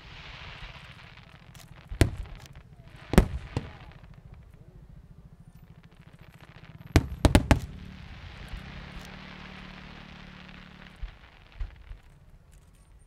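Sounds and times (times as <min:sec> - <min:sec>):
crackling hiss: 0:00.0 - 0:13.0
fireworks bangs: 0:00.0 - 0:13.0.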